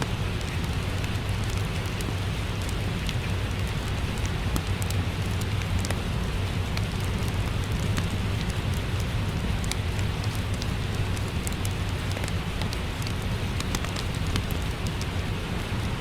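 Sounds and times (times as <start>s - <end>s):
fireplace crackling: 0.0s - 15.4s
steady rain: 0.0s - 16.0s.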